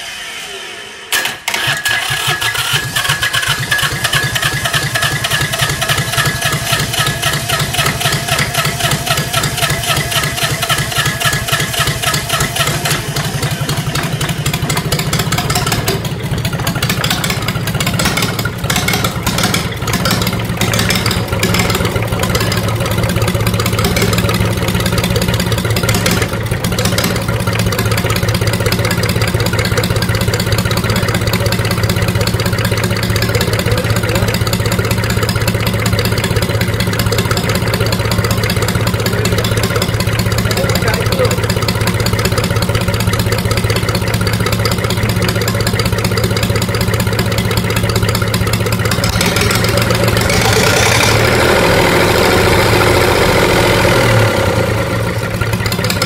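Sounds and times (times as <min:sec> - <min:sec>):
diesel engine idling: 0:01.2 - 0:56.0.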